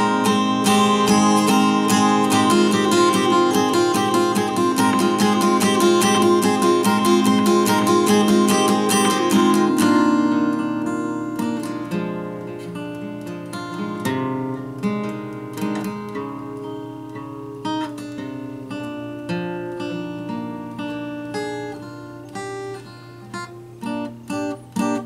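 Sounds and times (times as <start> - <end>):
solo acoustic guitar: 0.0 - 25.0.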